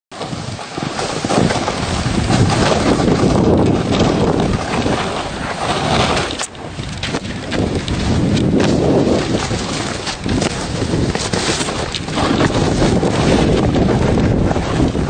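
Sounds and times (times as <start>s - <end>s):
wind on microphone: 0.1s - 15.0s
snowboards scraping over snow: 0.2s - 15.0s.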